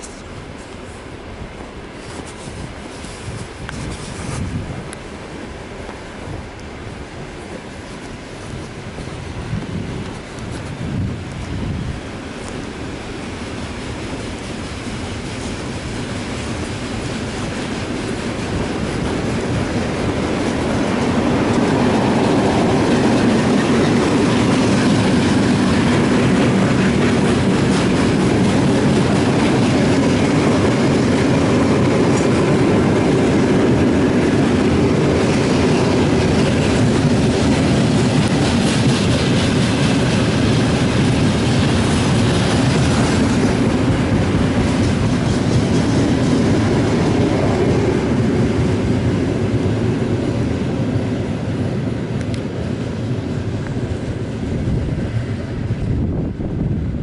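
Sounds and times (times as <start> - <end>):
train wagons rumbling on rails: 0.0 - 57.0.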